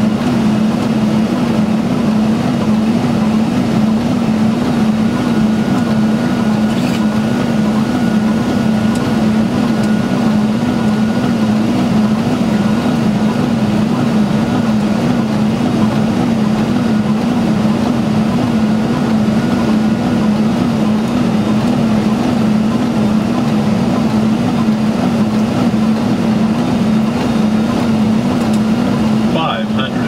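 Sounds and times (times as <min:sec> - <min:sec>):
low wavering hum: 0:00.0 - 0:30.0
steady rushing noise: 0:00.0 - 0:30.0.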